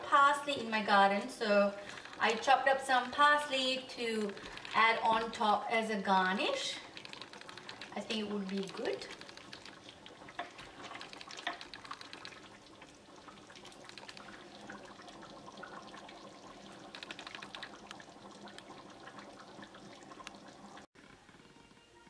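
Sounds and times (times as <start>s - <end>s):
chili bubbling and crackling: 0.6s - 21.4s.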